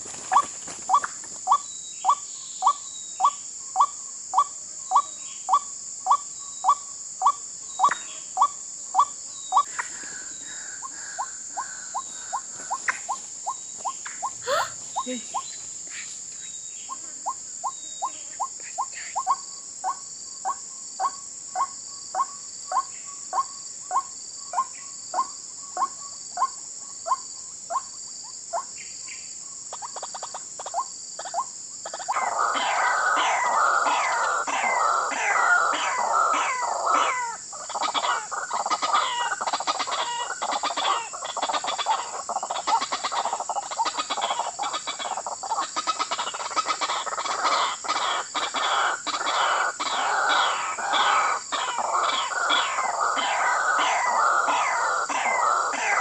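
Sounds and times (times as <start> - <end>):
insect buzz: 0.0 - 56.0.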